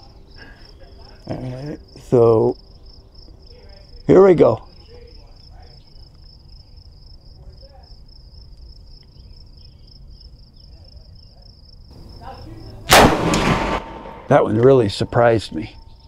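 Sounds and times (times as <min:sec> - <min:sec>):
insects trilling: 0:00.0 - 0:13.0, 0:13.8 - 0:16.0.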